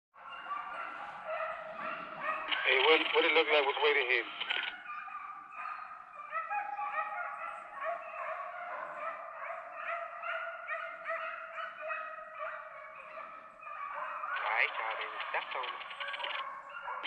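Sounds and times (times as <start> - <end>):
pack of dogs baying: 0.2 - 17.0.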